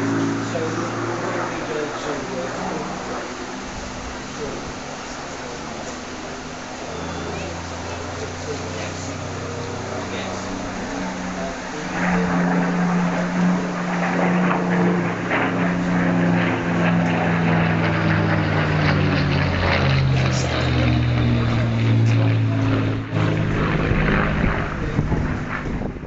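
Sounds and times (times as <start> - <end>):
aircraft engine flying past: 0.0 - 26.0.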